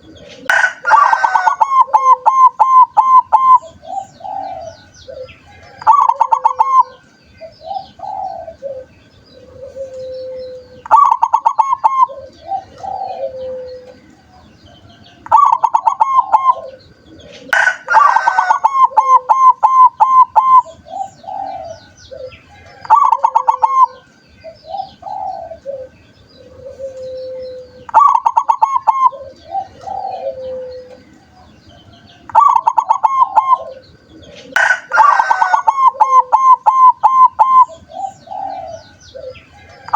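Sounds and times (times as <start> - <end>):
dove singing clipped notes and coos: 0.0 - 39.9.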